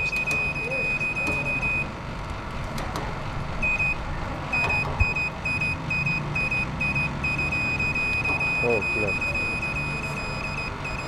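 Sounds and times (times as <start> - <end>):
meter beeping: 0.0 - 1.9, 3.6 - 11.0.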